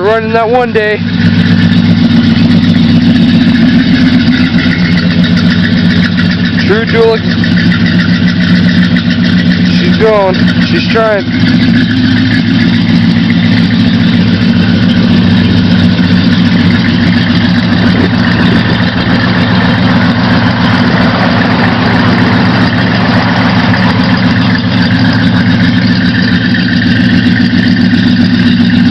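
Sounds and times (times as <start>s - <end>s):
loud engine idling: 0.0s - 28.9s.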